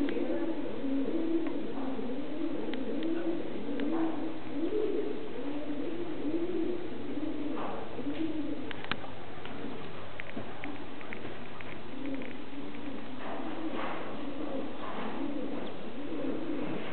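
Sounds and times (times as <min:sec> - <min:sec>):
pigeons cooing: 0:00.0 - 0:16.9.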